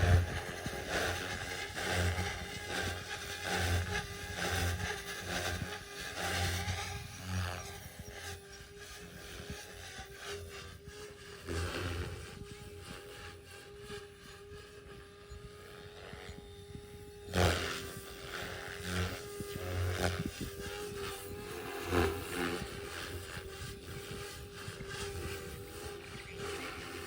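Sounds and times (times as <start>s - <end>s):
electric rc helicopter whine: 0.0s - 27.0s.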